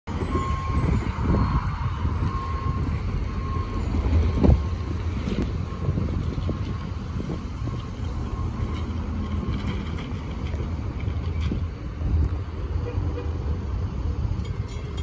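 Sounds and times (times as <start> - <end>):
road traffic rumble: 0.1 - 15.0
wind buffeting microphone: 0.1 - 15.0.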